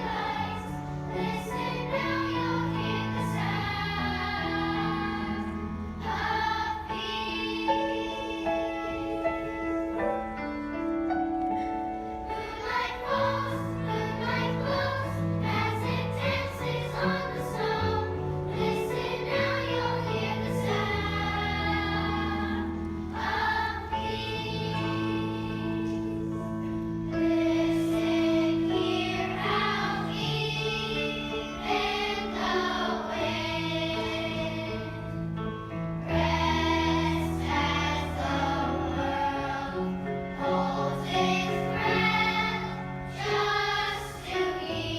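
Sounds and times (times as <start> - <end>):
children's choir singing: 0.0 - 44.9
piano accompaniment: 0.0 - 44.9.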